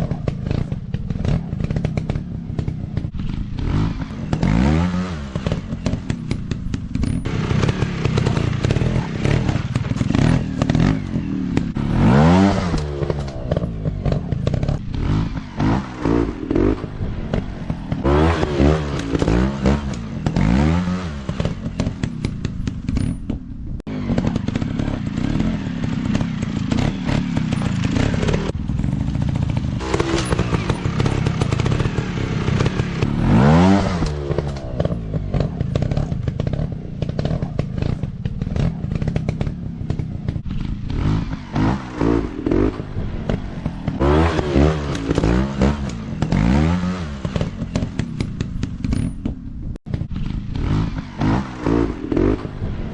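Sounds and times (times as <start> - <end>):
bike clattering over rough ground: 0.0 - 52.9
dirt bike engine revving: 0.0 - 52.9.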